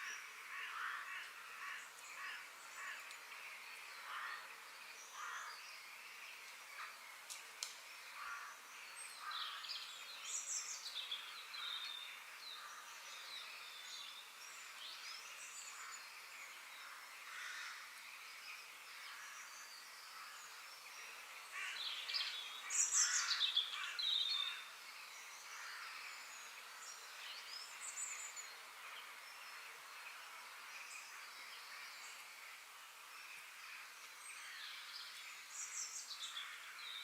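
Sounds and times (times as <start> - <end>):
birds chirping and singing: 0.0 - 37.0
steady high hiss: 0.0 - 37.0.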